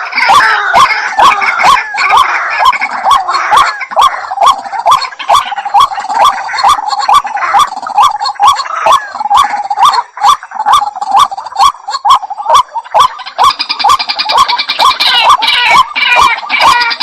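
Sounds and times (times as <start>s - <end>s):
higher chattering bird calls: 0.0s - 17.0s.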